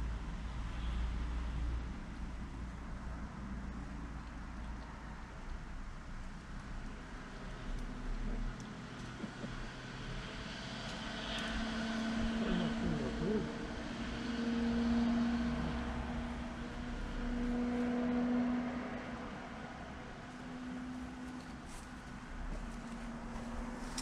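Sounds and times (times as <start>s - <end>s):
distant engine droning: 0.0s - 24.0s.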